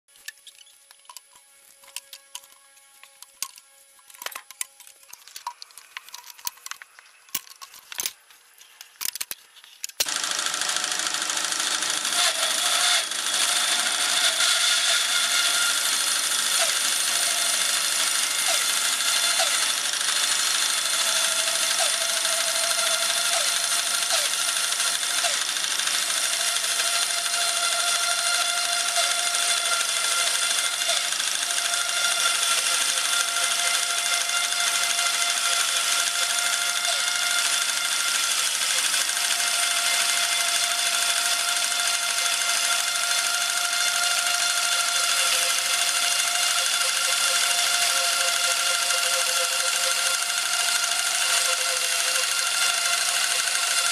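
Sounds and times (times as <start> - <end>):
band saw blade whine: 0.1 - 7.7, 10.0 - 53.9.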